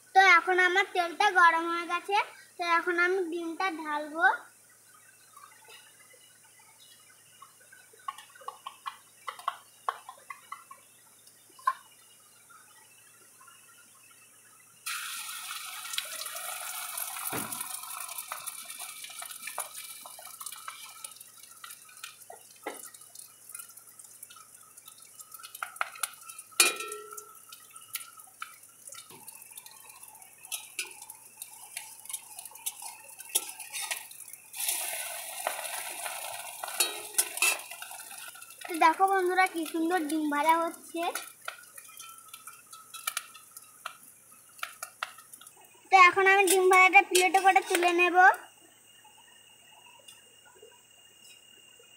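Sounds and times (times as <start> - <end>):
egg sizzling in hot oil: 0.0 - 50.2.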